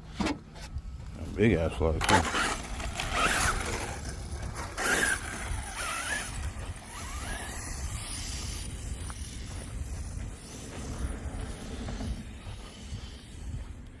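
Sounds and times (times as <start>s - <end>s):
wind rumble on microphone: 0.6s - 14.0s
electric motor whining: 2.0s - 13.5s.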